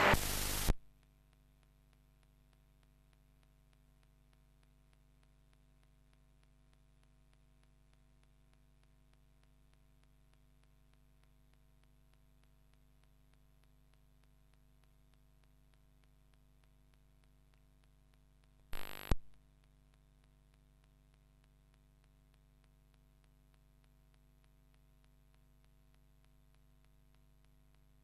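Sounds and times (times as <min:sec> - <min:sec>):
faint hum and hiss: 0:00.0 - 0:28.0.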